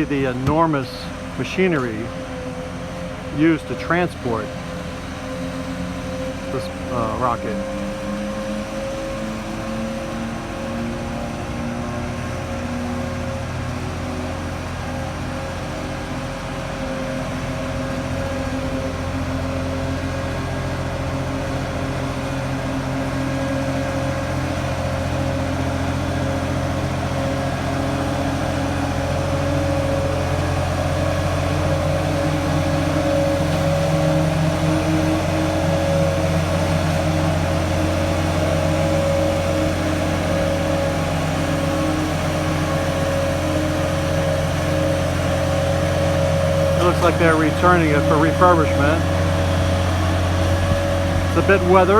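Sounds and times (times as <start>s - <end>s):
heavy vehicle engine humming: 0.0s - 51.9s.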